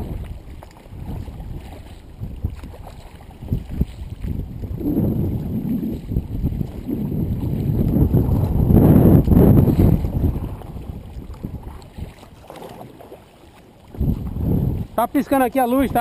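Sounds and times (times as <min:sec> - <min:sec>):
wind buffeting microphone: 0:00.0 - 0:13.1, 0:13.7 - 0:16.0
paddle strokes splashing water: 0:00.0 - 0:16.0.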